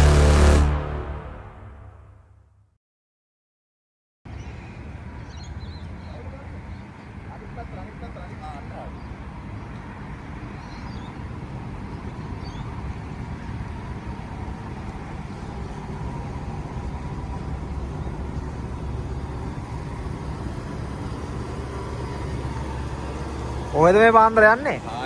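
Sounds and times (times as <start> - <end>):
vehicle engine rumbling: 0.0 - 1.6, 4.8 - 25.0.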